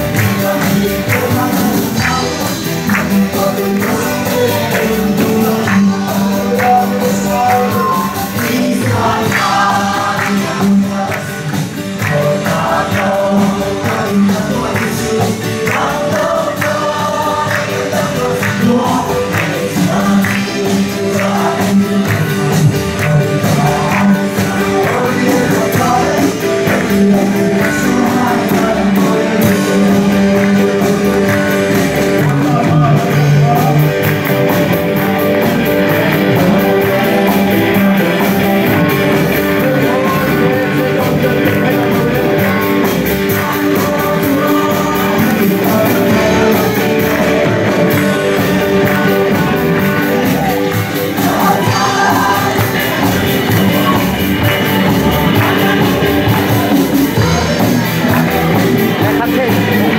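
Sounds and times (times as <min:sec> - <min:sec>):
amplified instruments: 0:00.0 - 0:59.9
congregation singing worship song: 0:00.0 - 0:59.9
hand-claps or tambourine beat: 0:00.0 - 0:59.9.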